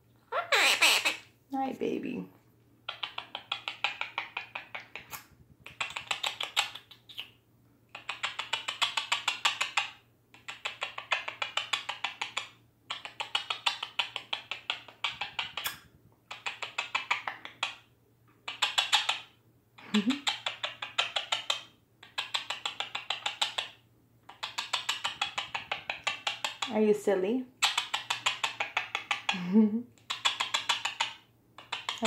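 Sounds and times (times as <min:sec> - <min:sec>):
parrot clicking rapidly: 0:02.9 - 0:07.3, 0:07.9 - 0:19.3, 0:20.0 - 0:26.8, 0:27.6 - 0:29.4, 0:30.0 - 0:32.0.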